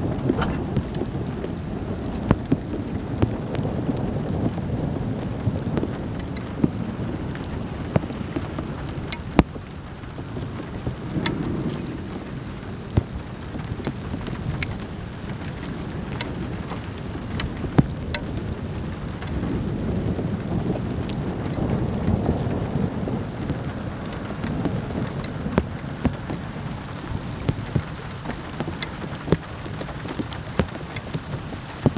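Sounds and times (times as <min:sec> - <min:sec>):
low thunder rumbling: 0:00.0 - 0:31.9
rain falling: 0:00.0 - 0:31.9
raindrops striking near microphone: 0:00.0 - 0:31.9.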